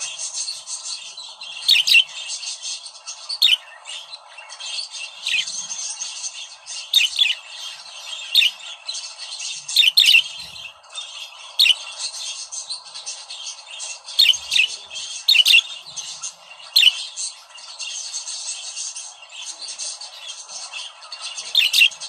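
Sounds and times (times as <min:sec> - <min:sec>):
budgerigars warbling: 0:00.0 - 0:22.0
sharp chirping calls: 0:00.0 - 0:22.0.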